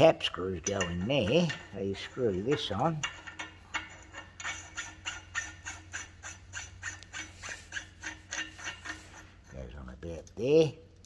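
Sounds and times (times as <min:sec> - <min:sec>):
nut screwed onto metal thread: 0:00.0 - 0:10.4.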